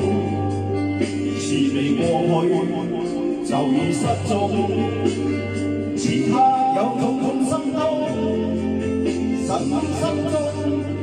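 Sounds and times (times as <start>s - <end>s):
backing music track: 0.0s - 11.0s
man singing into microphone: 0.0s - 11.0s.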